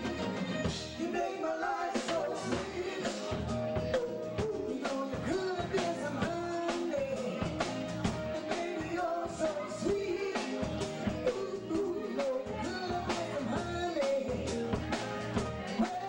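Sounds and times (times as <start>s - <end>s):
drum kit steady beat: 0.0s - 16.0s
live band playing: 0.0s - 16.0s
several people singing: 1.0s - 16.0s.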